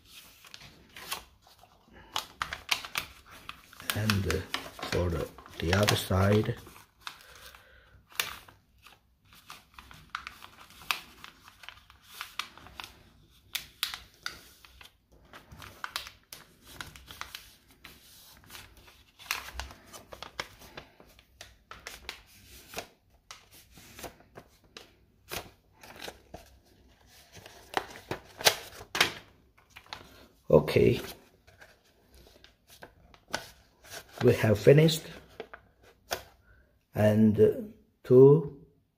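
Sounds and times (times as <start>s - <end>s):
paper rustling and crackling: 0.0s - 36.4s.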